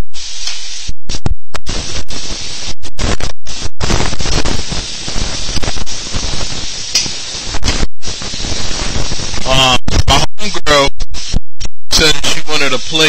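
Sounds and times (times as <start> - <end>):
distorted hiss and crackle: 0.1 - 13.0.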